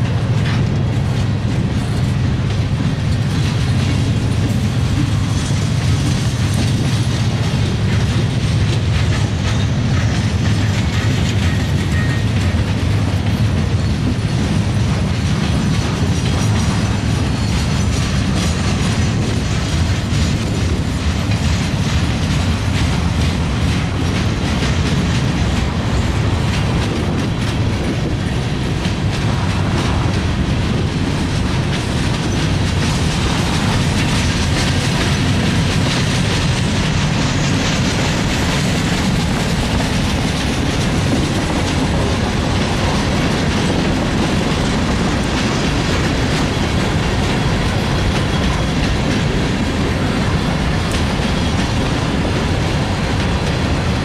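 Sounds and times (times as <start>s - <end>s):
train wheels clacking over rail joints: 0.0s - 54.0s
wind buffeting microphone: 0.0s - 54.0s.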